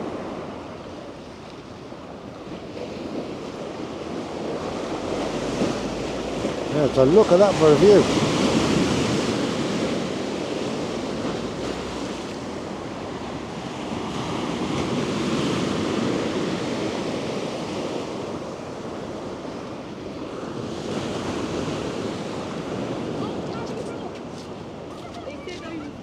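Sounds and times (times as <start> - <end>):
sea waves washing ashore: 0.0 - 26.0
wind on microphone: 0.0 - 26.0.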